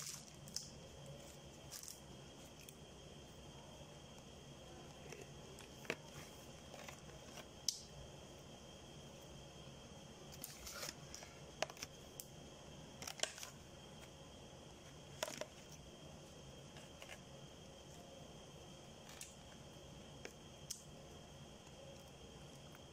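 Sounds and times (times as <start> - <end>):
faint steady hiss: 0.0 - 22.9.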